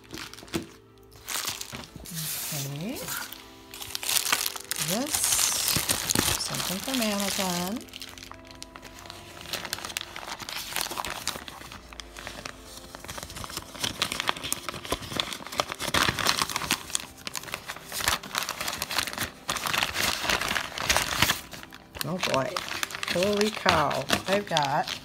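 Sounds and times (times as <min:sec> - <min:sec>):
plastic bag crinkling and tearing: 0:00.0 - 0:25.0.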